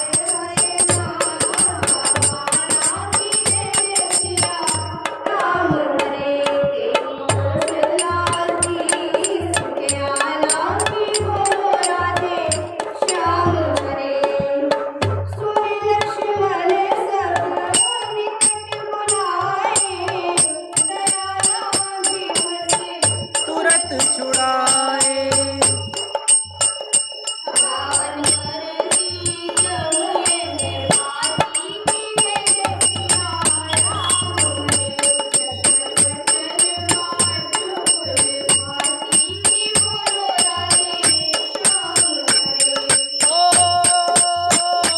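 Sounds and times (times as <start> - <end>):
high ticking percussion beat: 0.0 - 44.9
tabla strokes: 0.0 - 44.9.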